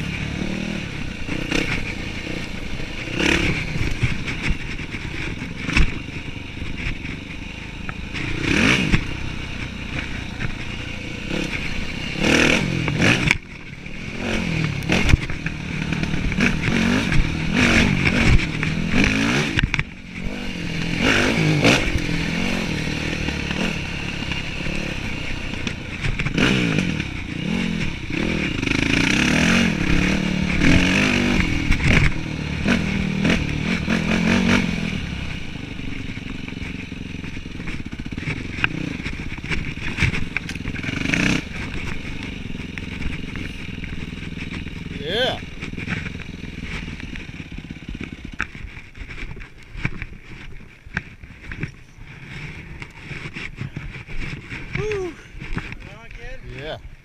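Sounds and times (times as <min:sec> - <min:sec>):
dirt bike engine revving: 0:00.0 - 0:56.9
bike knocking and rattling: 0:00.0 - 0:57.0.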